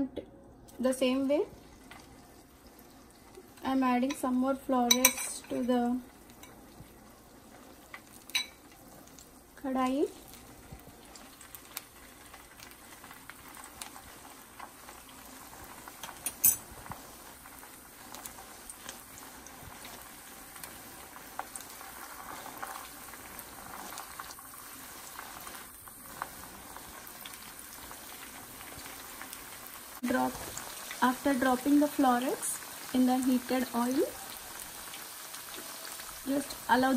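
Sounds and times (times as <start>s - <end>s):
battered vegetables deep-frying in oil: 0.0s - 36.9s.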